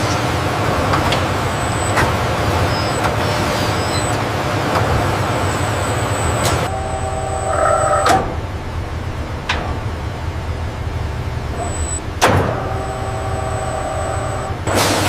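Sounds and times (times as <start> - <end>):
factory machinery humming: 0.0 - 15.0
pitched mechanical whine: 0.0 - 15.0.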